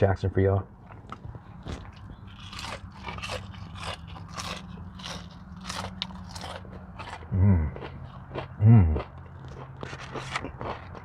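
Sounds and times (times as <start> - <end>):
crunching of onion ring being chewed: 0.9 - 11.0.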